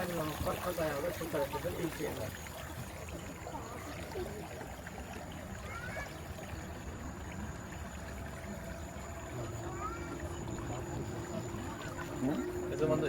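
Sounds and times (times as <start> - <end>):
river water washing along hull: 0.0 - 13.0.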